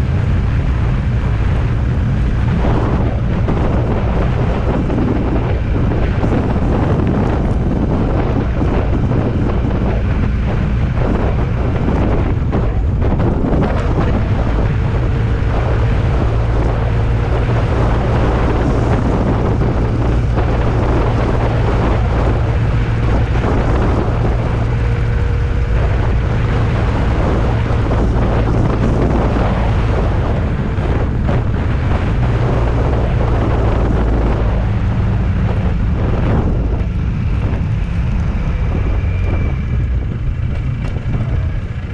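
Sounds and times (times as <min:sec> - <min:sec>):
vehicle engine humming: 0:00.0 - 0:41.9
wind buffeting microphone: 0:00.0 - 0:41.9.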